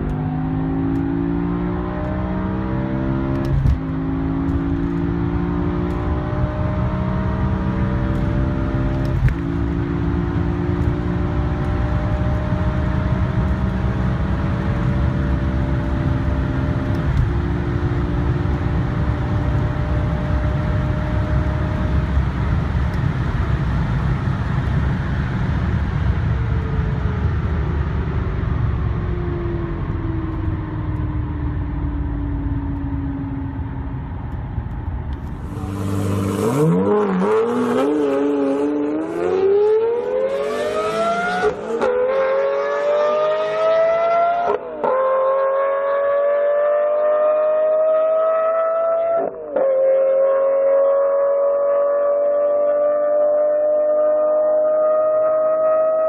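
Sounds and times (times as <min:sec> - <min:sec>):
car accelerating hard: 0:00.0 - 0:26.1, 0:35.1 - 0:56.0
car engine and road noise: 0:00.0 - 0:56.0.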